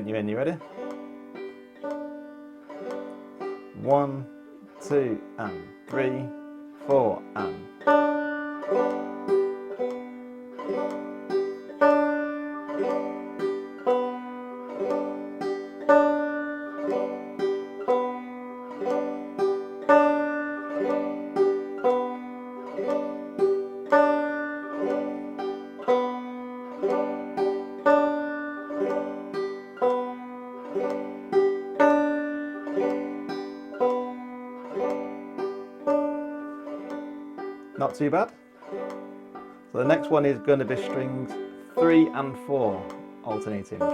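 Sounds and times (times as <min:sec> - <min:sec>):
banjo strumming: 0:00.0 - 0:43.9.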